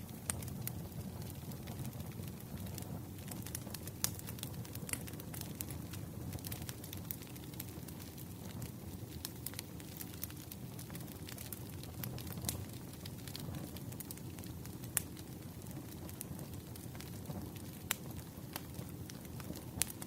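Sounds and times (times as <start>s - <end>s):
firewood crackling: 0.0s - 20.0s
rush of flame: 0.0s - 20.0s.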